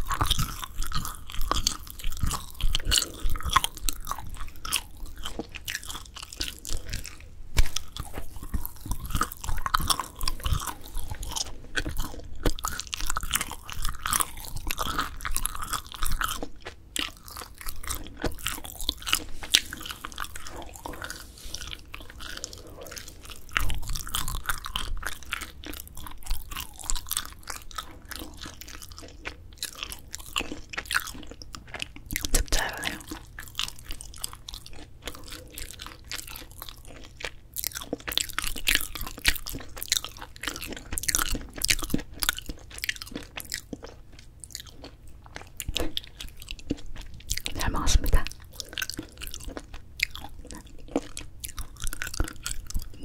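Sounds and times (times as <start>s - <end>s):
crunchy chewing and biting: 0.0s - 53.0s.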